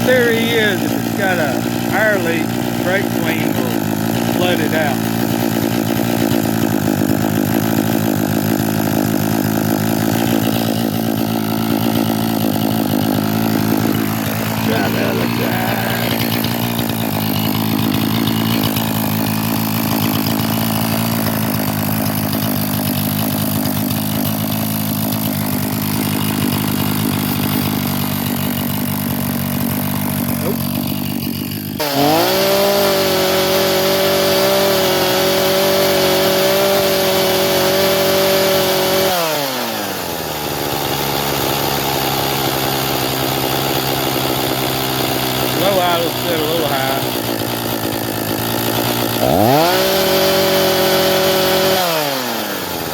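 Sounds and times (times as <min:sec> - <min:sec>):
chainsaw engine idling and revving: 0:00.0 - 0:52.9.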